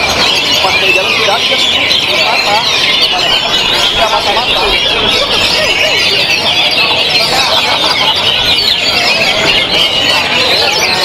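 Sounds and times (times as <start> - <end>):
songbirds chorus warbling: 0.0 - 11.0.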